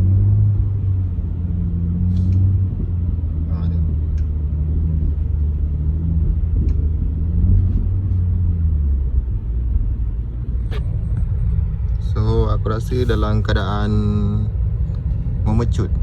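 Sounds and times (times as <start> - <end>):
car engine drone: 0.0 - 16.0.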